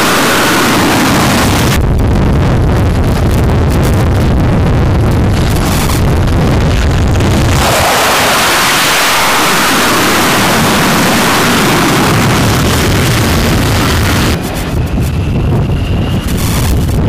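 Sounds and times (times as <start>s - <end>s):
jet engine roar with afterburner: 0.0s - 17.0s
low rumble: 0.0s - 17.0s.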